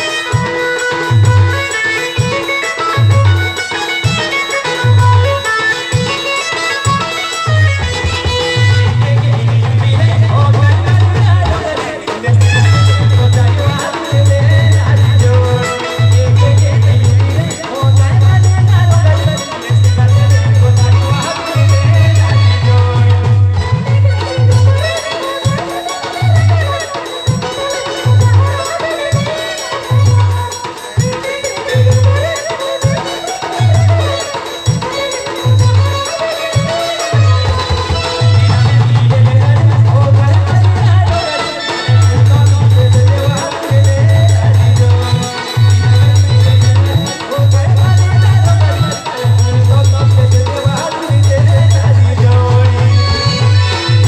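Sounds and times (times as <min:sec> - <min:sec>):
band playing folk dance tune: 0:00.0 - 0:54.0
steady drum beat: 0:00.0 - 0:54.0.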